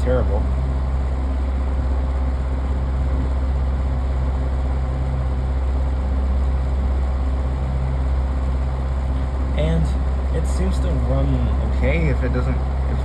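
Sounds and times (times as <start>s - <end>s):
desk fan motor humming: 0.0s - 13.0s.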